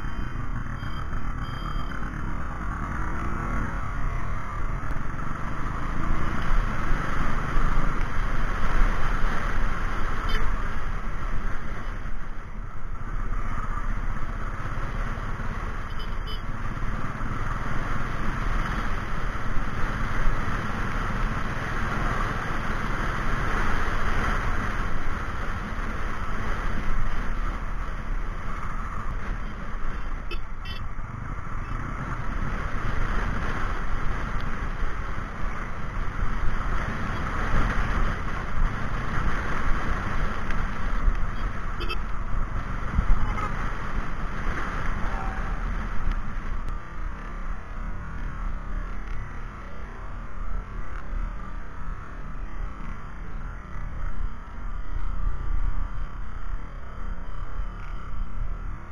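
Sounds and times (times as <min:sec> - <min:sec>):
vehicle engine and road noise: 0:00.0 - 0:58.9.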